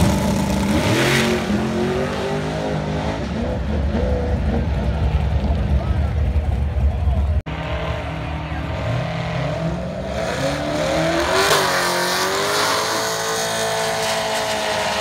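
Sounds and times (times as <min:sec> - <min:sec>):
cars engines accelerating: 0:00.0 - 0:15.0.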